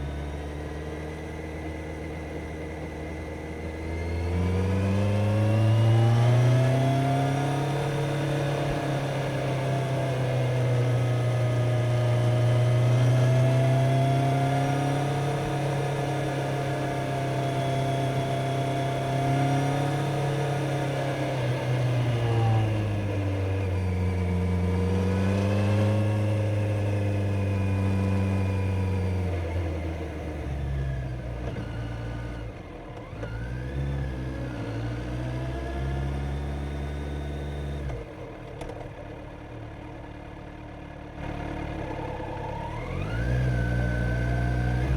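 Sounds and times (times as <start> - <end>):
motorcycle engine and exhaust revving: 0.0 - 39.4, 41.2 - 44.9.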